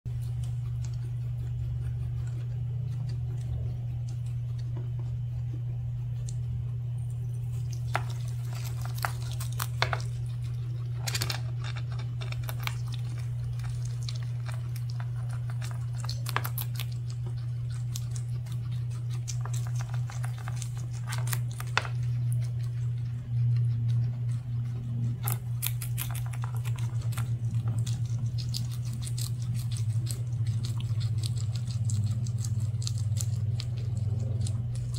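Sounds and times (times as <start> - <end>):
guinea pigs chewing greens: 0.0 - 34.9
low hum: 0.1 - 34.9.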